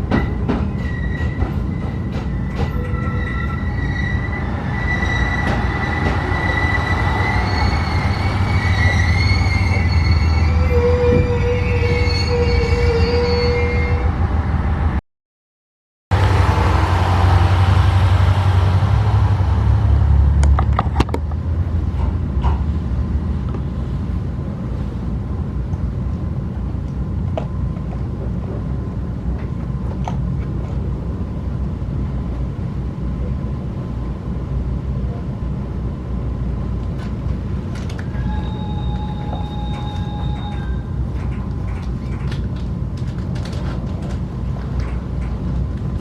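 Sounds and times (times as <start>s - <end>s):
train wheels rumbling on rails: 0.0s - 14.9s, 16.1s - 46.0s.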